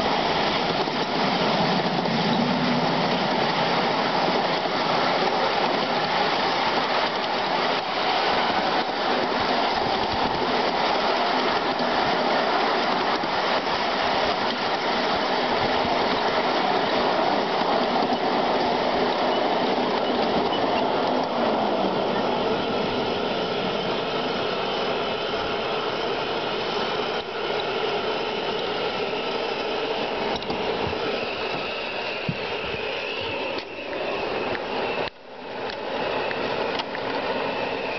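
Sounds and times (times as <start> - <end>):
miniature locomotive rumbling: 0.0 - 37.9
steel wheels clattering on rails: 0.0 - 37.9
running gear whirring: 3.1 - 37.9.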